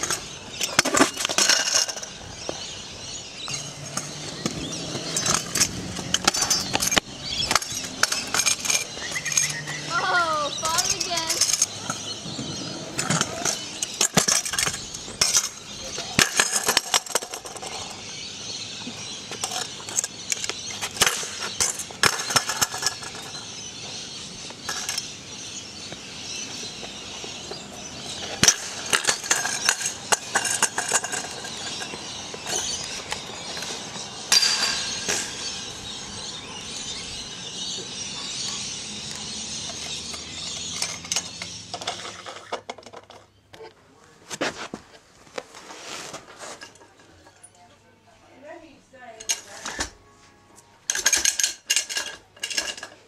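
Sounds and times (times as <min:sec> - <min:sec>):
scooter clattering on concrete: 0:00.0 - 0:43.8.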